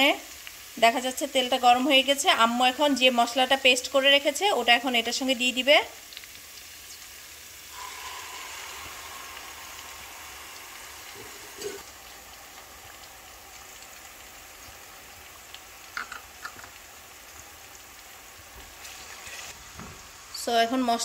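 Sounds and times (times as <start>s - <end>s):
onion sizzling in hot oil: 0.0s - 21.0s.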